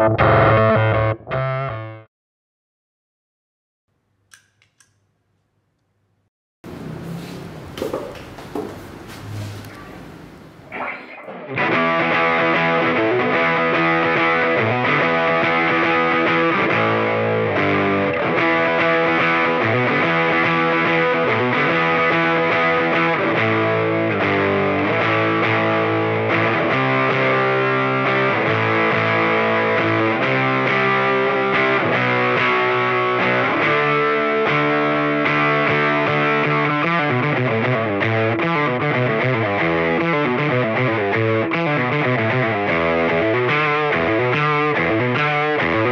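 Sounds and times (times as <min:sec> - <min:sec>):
distorted electric guitar chords: 0:00.0 - 0:02.1, 0:10.0 - 0:45.9.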